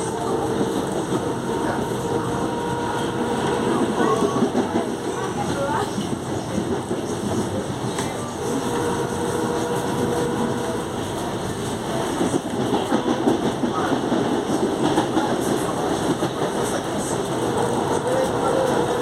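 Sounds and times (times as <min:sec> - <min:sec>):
wheels rumbling on rails: 0:00.0 - 0:19.0.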